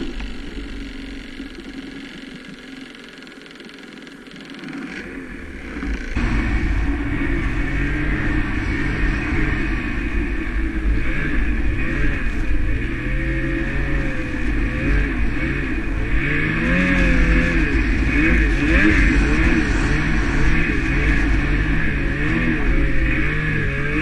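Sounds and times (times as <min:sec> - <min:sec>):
snowmobile engine revving: 0:04.3 - 0:24.0.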